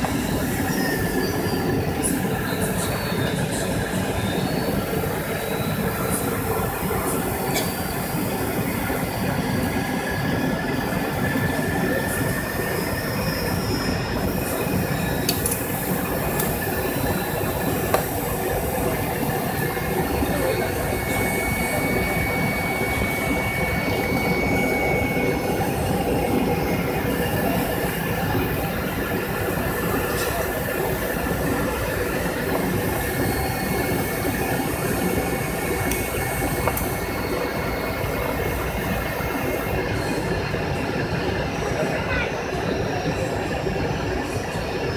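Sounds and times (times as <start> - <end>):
airliner cabin engine roar: 0.0 - 44.9
faint high whines: 0.0 - 44.9.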